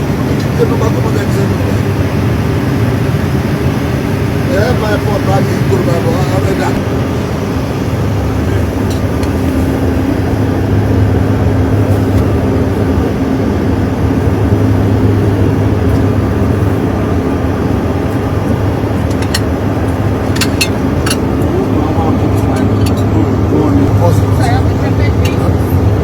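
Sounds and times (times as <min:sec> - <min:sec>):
jet cabin engine hum: 0:00.0 - 0:26.0.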